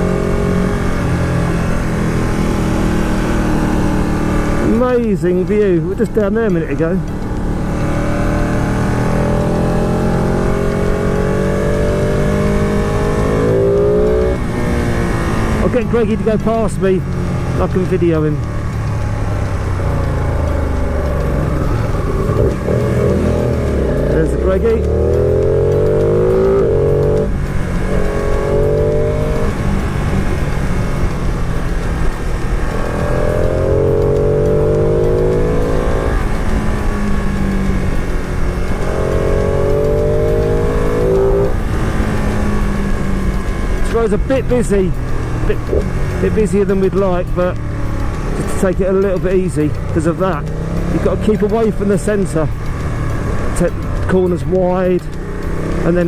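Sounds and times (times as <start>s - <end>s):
motorcycle engine accelerating: 0.0s - 56.0s
road and wind noise: 0.0s - 56.0s.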